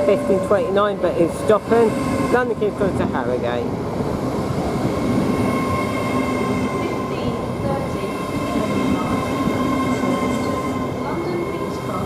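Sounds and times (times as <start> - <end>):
train rumble with high whine: 0.0 - 12.0.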